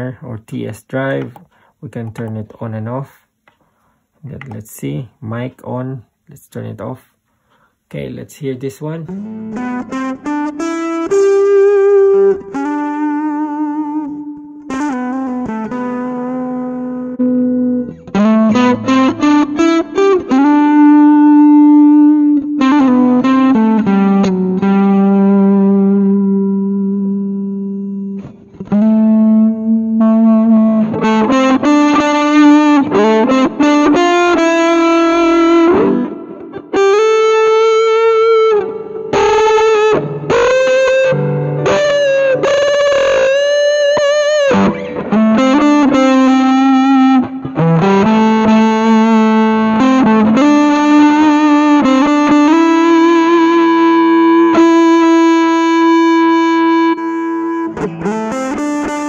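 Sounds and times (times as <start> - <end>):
distorted electric guitar lead: 8.9 - 59.0.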